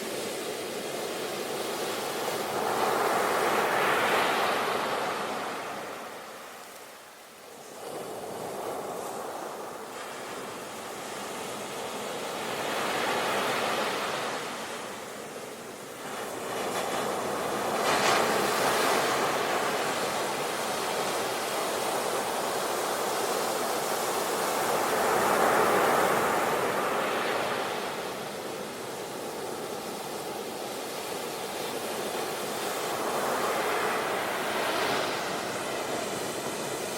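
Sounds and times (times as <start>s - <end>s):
sea waves washing onto shore: 0.0s - 36.9s.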